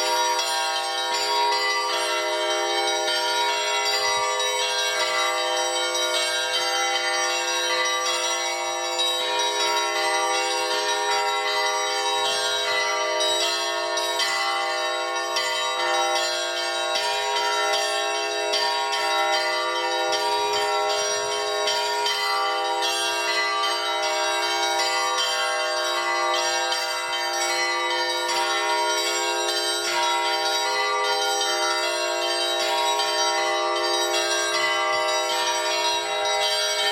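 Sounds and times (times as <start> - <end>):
church bells pealing: 0.0 - 36.9.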